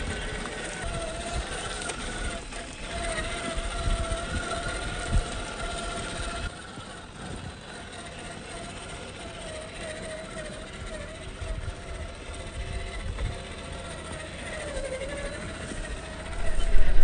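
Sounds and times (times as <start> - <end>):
electric motor and gearbox whining: 0.0 - 17.0.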